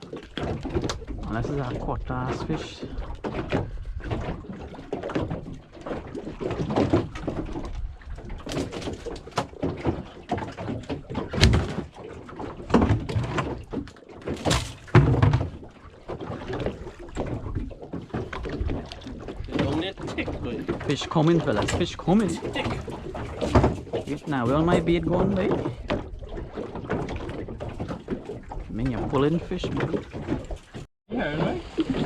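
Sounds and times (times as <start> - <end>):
knocks and thuds against boat: 0.0 - 32.0.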